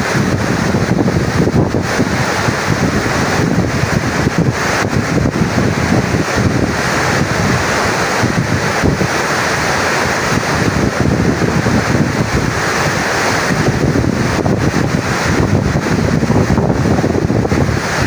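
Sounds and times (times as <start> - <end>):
floodwater rushing down spillway: 0.0 - 18.0
wind buffeting microphone: 0.0 - 18.0.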